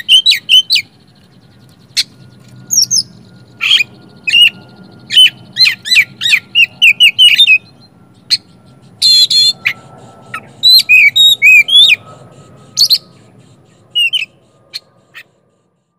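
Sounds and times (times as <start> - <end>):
songbird singing: 0.0 - 15.9.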